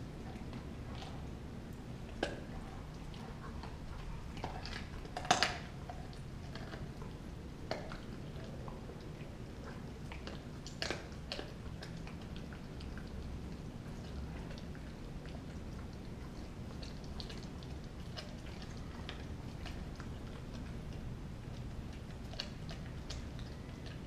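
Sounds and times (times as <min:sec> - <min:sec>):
dog crunching frozen bone: 0:00.2 - 0:24.0.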